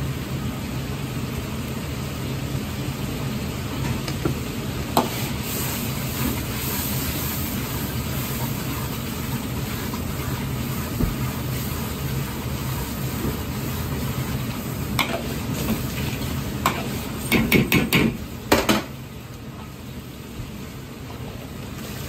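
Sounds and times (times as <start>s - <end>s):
gas burner roaring: 0.0s - 22.0s
sauce boiling: 0.0s - 22.0s.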